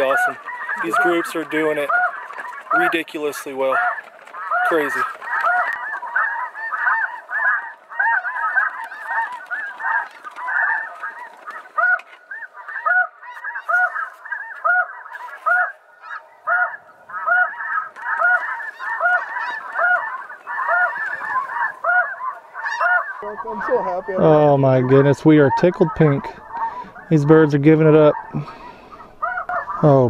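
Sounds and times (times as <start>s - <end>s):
geese honking: 0.0s - 30.0s
repeating goose call: 0.0s - 30.0s.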